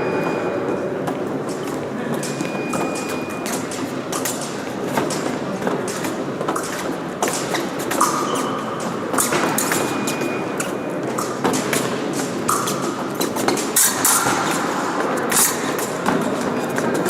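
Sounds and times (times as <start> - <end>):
sports hall noise: 0.0 - 17.0
fencing blades clicking and clashing: 1.5 - 17.0.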